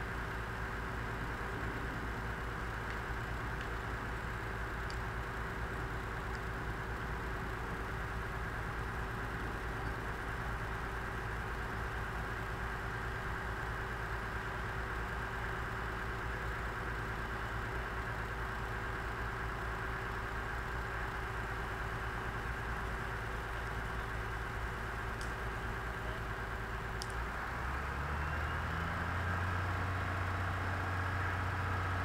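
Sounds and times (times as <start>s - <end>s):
heavy machinery engine idling: 0.0s - 32.0s.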